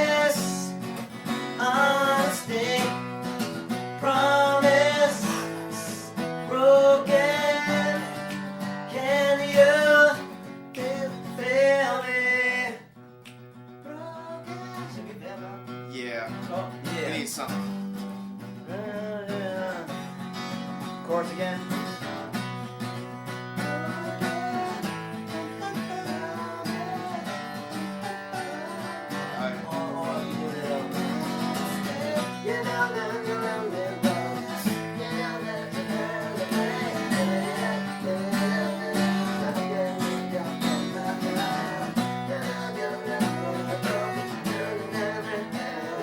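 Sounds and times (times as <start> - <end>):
acoustic guitars strumming: 0.0 - 46.0.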